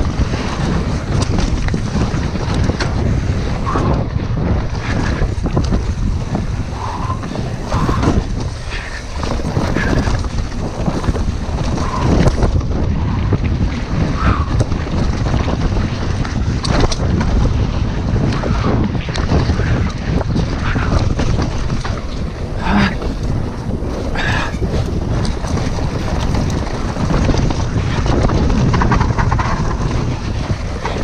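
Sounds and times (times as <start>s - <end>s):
bike knocking and rattling: 0.0s - 31.0s
tyres rumbling on dirt: 0.0s - 31.0s
wind buffeting microphone: 0.0s - 31.0s.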